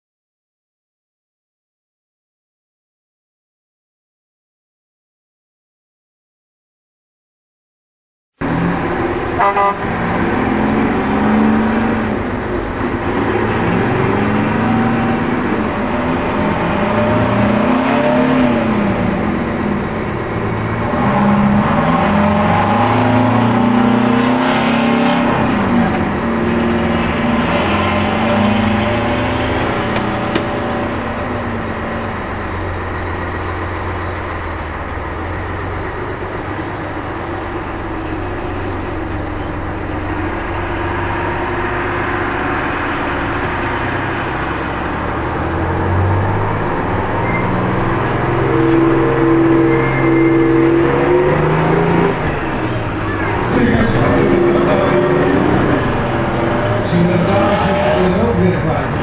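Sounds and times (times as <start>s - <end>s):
diesel truck engines revving: 8.4s - 59.0s.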